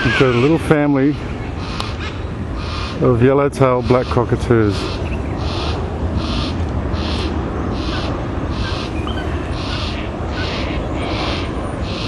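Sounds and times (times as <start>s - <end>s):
young cockatoo begging calls: 0.0s - 12.0s.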